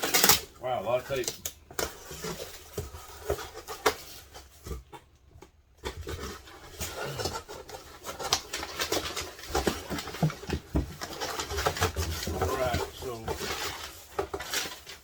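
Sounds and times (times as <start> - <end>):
cardboard rustling and knocking: 1.7 - 5.1, 5.7 - 15.0.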